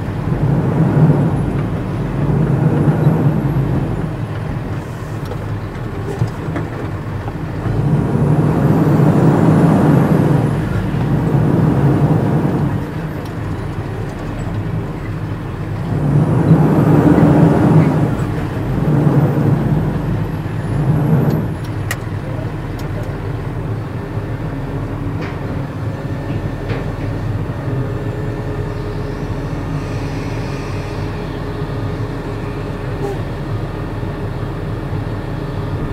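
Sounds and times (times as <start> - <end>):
truck engine from inside cab: 0.0 - 35.9.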